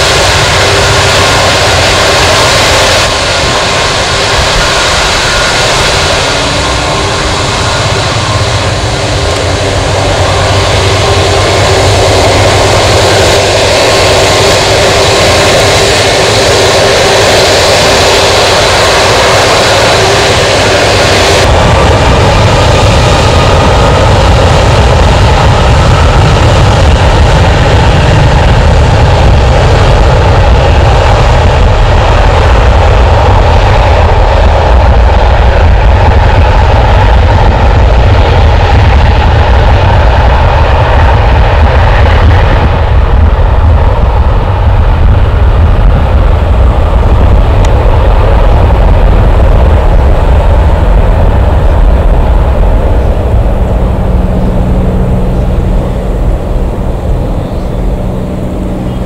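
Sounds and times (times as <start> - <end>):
engine whine: 0.0 - 59.0
jet engines at takeoff power: 0.0 - 59.0.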